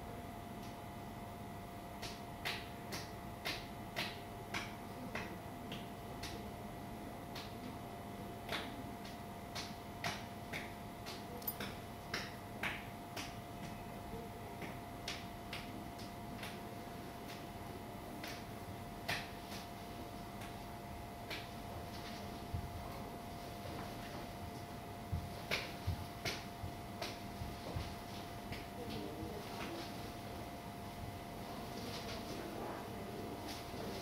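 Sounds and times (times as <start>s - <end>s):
faint electrical hum: 0.0s - 34.0s.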